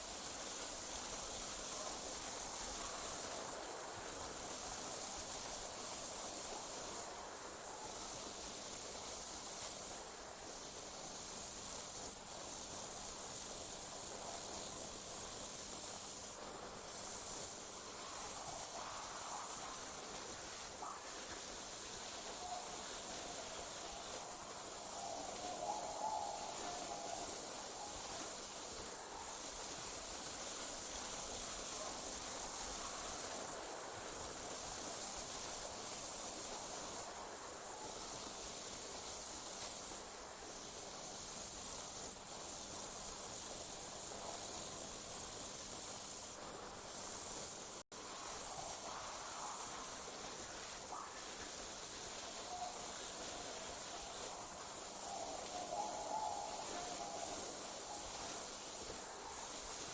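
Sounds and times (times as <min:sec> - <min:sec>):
crickets trilling: 0:07.8 - 0:37.1, 0:37.7 - 0:59.9.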